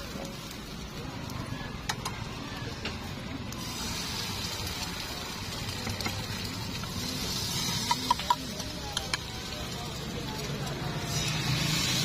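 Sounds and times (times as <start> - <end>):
batter sizzling in a frying pan: 0.0 - 12.0.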